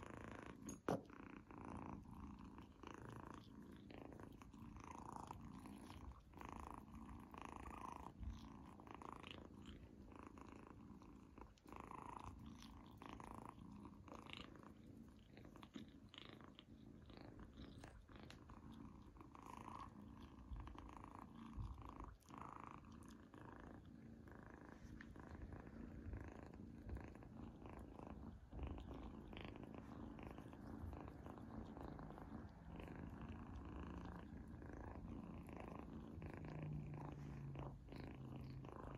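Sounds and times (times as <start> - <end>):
kitten purring: 0.0 - 38.9.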